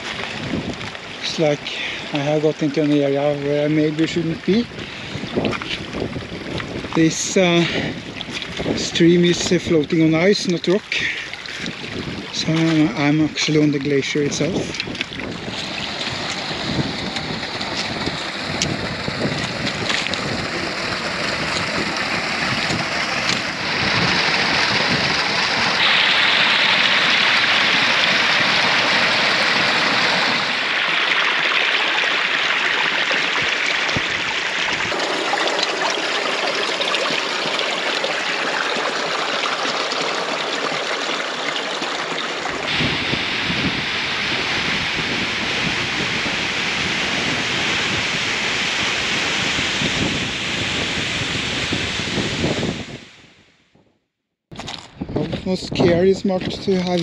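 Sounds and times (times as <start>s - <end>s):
stream rushing over stones: 0.0s - 53.0s.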